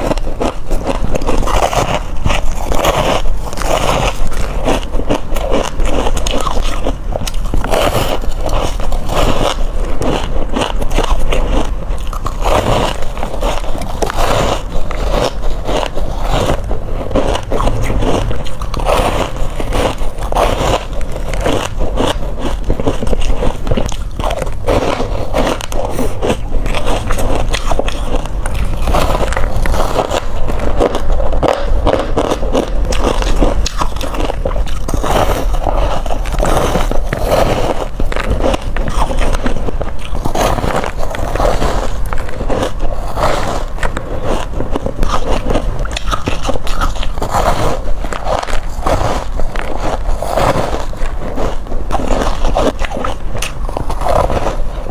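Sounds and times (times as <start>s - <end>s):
crushed ice crunching: 0.0s - 54.9s.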